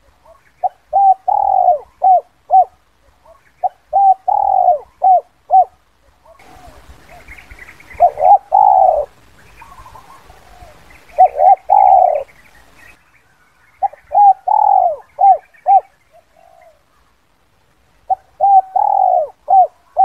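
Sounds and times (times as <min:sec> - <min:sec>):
dove cooing: 0:00.0 - 0:12.8, 0:13.8 - 0:17.1, 0:18.0 - 0:20.0.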